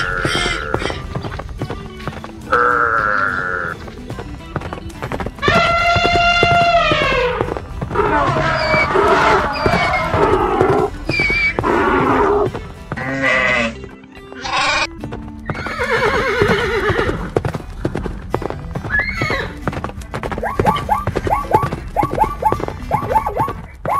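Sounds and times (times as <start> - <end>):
background music: 0.0 - 23.9.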